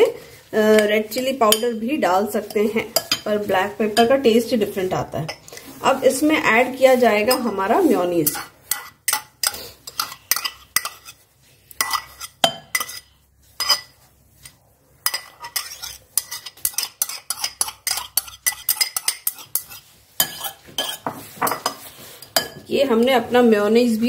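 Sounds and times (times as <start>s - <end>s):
spoon clinking and scraping bowls: 0.7s - 4.5s, 6.6s - 23.2s.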